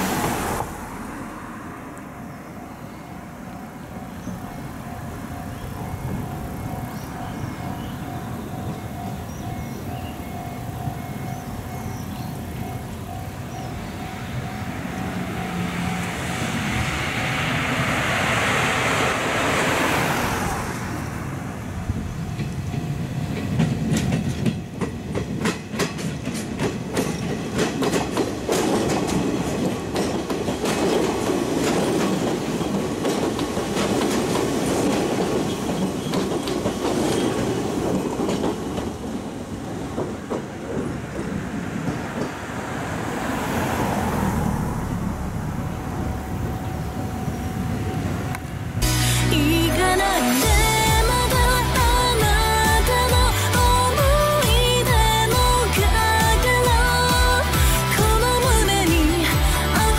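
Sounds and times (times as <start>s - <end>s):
wheels clacking over rail joints: 0.0s - 48.8s
electric train passing: 0.0s - 59.9s.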